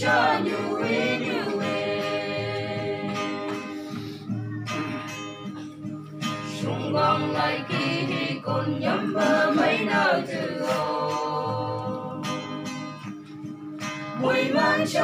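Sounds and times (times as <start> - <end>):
group of people singing gospel: 0.0 - 4.3, 6.2 - 13.1, 14.0 - 15.0
acoustic guitar: 0.0 - 15.0.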